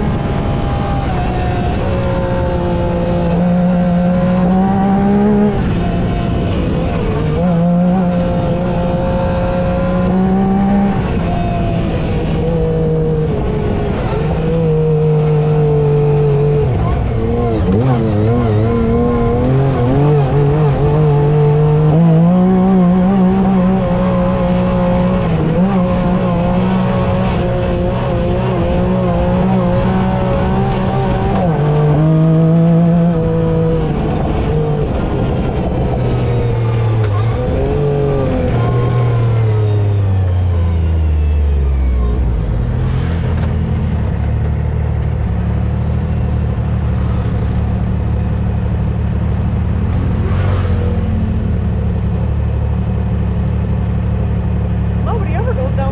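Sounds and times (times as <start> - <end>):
side-by-side engine revving: 0.0 - 55.9.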